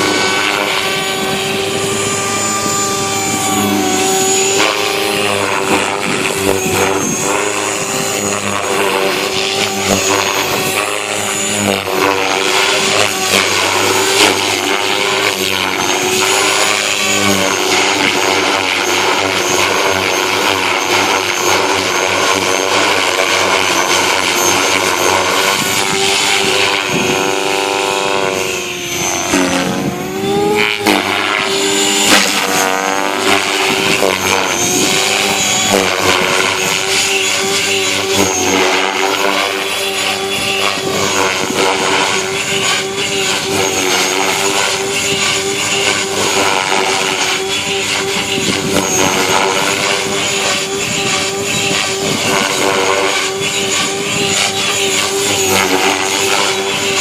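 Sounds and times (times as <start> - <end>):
electric motor whine: 0.0 - 57.0
rotor blades buzzing: 0.0 - 57.0.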